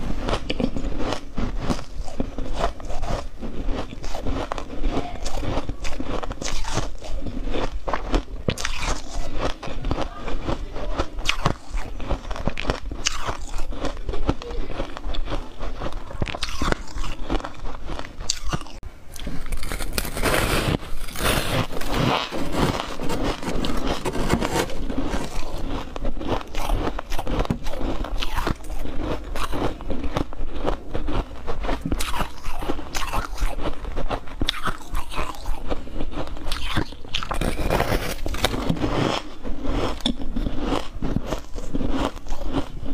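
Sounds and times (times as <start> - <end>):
crunching ice while chewing: 0.0 - 42.9.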